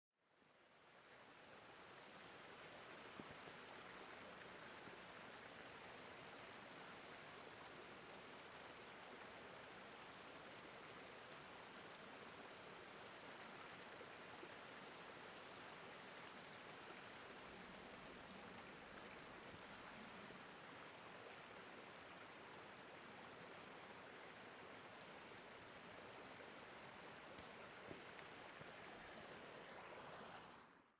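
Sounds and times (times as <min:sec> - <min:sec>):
stream rushing over rocks: 0:00.6 - 0:30.9.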